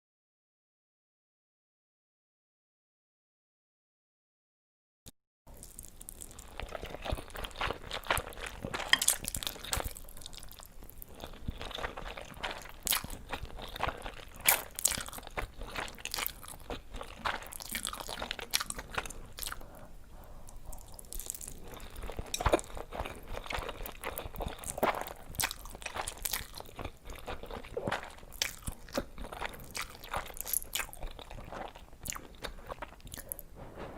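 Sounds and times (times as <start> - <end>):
crunchy food being chewed: 5.5 - 33.9.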